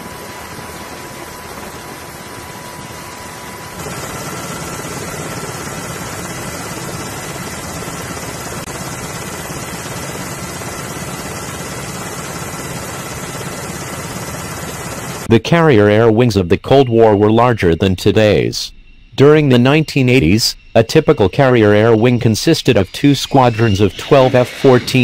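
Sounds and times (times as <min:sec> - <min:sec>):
helicopter noise from aboard: 0:00.0 - 0:15.4, 0:19.5 - 0:25.0
faint high whine: 0:00.0 - 0:25.0.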